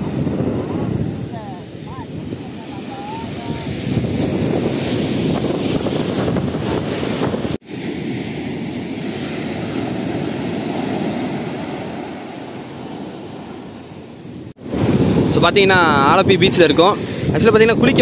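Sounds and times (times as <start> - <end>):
sea surf washing onto beach: 0.0 - 18.0
wind buffeting microphone: 0.0 - 18.0.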